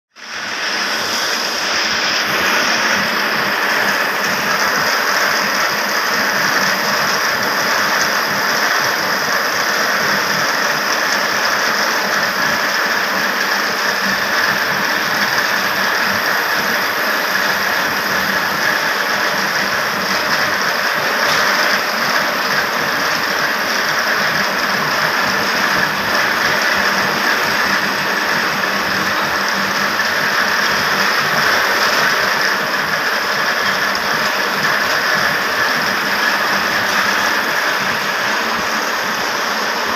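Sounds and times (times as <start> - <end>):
loom machinery din: 0.2 - 39.9.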